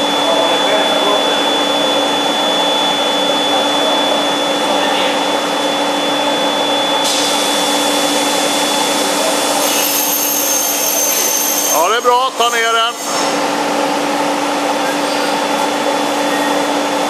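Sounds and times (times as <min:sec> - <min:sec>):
blower rushing air with whine: 0:00.0 - 0:17.0.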